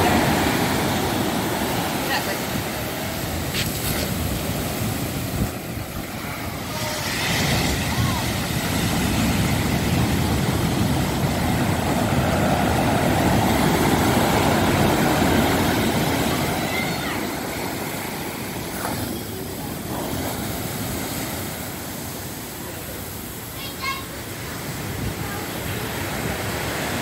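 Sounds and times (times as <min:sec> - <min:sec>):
storm waves breaking: 0:00.0 - 0:27.0
water rushing up beach: 0:00.0 - 0:27.0.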